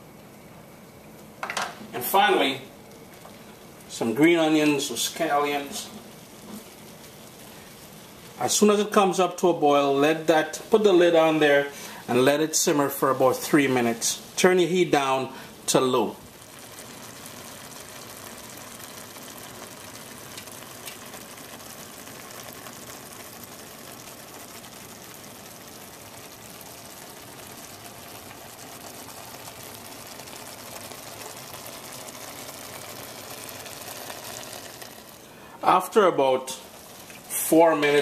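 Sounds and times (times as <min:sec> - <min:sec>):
sauce bubbling and sizzling: 0:00.0 - 0:38.0.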